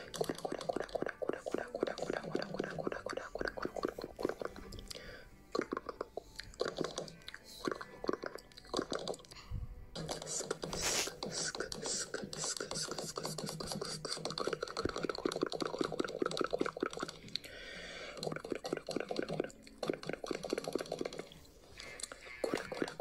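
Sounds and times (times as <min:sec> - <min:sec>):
mouth clicks and smacks: 0:00.0 - 0:09.4, 0:10.0 - 0:23.0.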